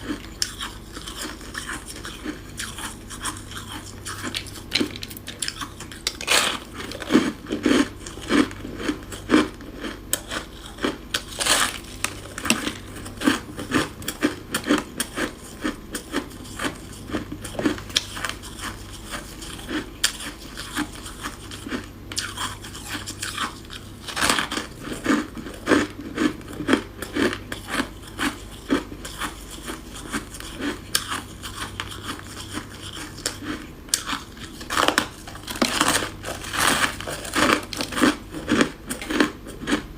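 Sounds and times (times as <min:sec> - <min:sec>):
crunchy chewing of frost: 0:00.0 - 0:39.9.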